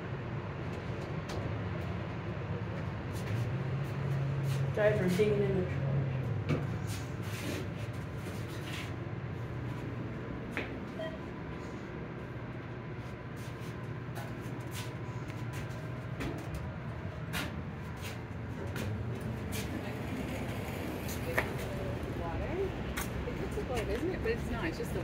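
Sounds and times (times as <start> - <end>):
elevator low hum: 0.0 - 25.0.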